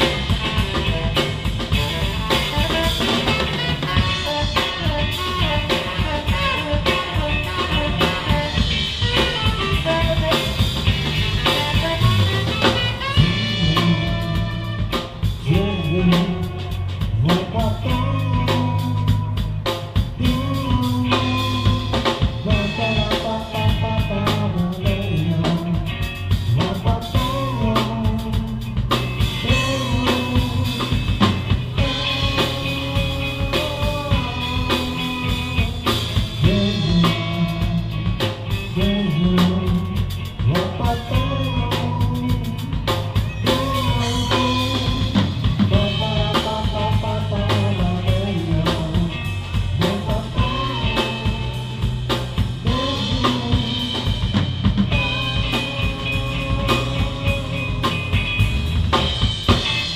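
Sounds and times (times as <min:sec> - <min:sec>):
drum kit groove: 0:00.0 - 0:59.9
electric bass: 0:00.0 - 0:59.9
electric guitar: 0:00.0 - 0:59.9.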